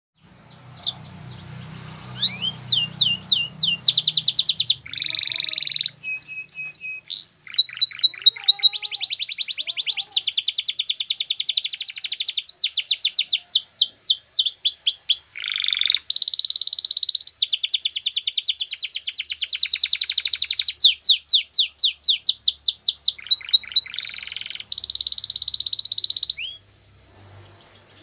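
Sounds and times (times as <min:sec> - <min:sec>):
canary singing: 0:00.2 - 0:26.7.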